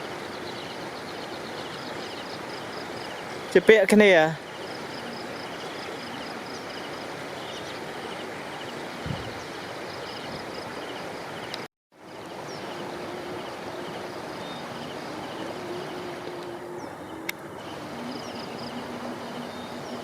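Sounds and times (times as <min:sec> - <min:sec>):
floodwater rushing: 0:00.0 - 0:20.0
insects chirping: 0:00.0 - 0:20.0.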